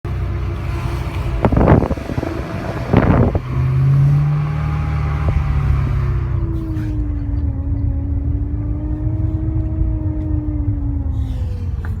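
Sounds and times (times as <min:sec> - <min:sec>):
car engine running: 0:00.1 - 0:12.0
engine whine: 0:00.1 - 0:12.0.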